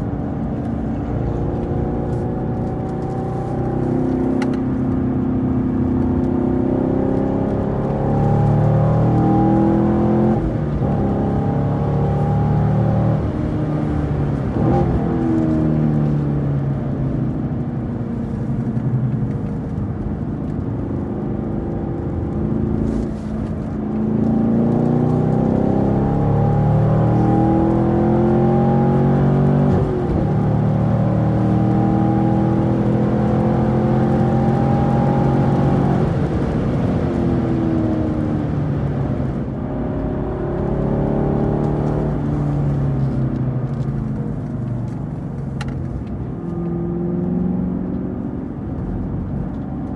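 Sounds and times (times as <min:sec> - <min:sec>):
car engine at full throttle: 0:00.0 - 0:49.9.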